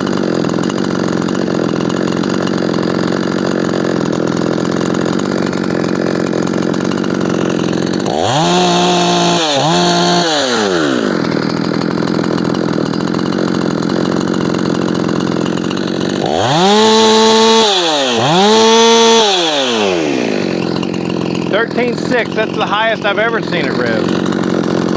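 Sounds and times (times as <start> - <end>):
chainsaw idling and revving: 0.0 - 24.9.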